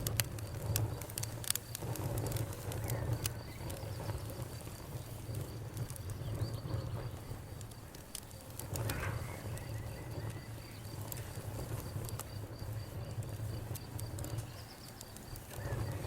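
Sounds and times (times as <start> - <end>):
campfire crackling: 0.0 - 16.0
fire hissing flare: 0.0 - 16.0.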